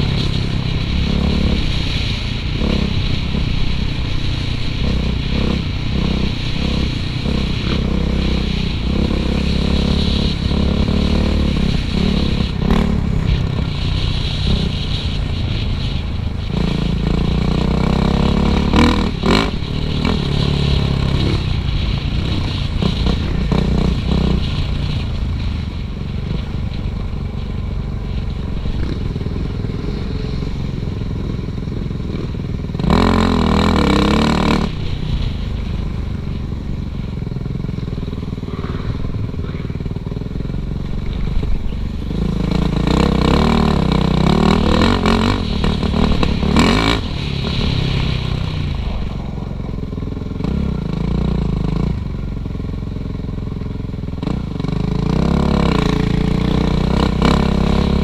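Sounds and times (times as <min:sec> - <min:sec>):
dirt bike engine revving: 0:00.0 - 0:25.4, 0:27.3 - 0:52.1, 0:54.2 - 0:58.0.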